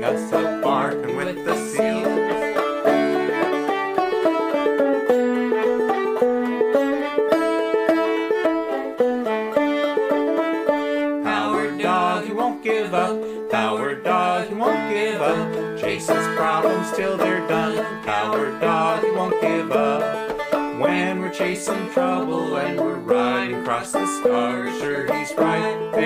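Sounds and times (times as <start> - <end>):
banjo bluegrass instrumental: 0.0 - 26.0.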